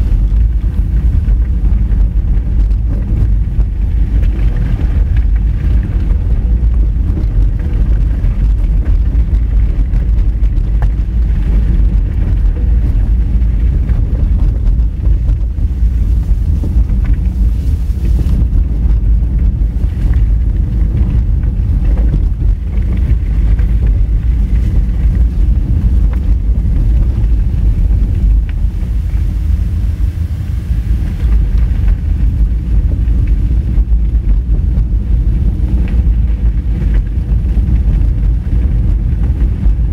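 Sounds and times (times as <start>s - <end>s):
car driving on gravel: 0.0s - 39.9s.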